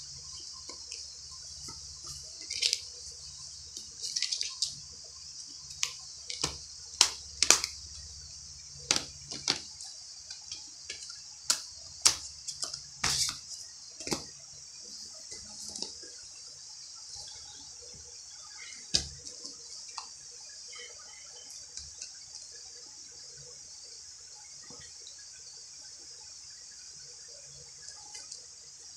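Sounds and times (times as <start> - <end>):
steady high hiss: 0.0 - 28.9.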